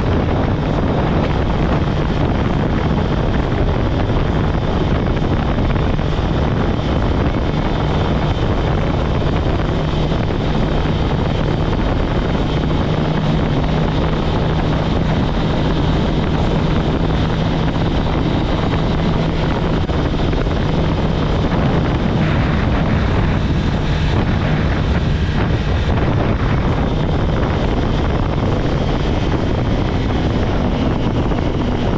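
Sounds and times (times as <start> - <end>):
motorcycle engine cruising: 0.0 - 31.9
wind over microphone: 0.0 - 31.9.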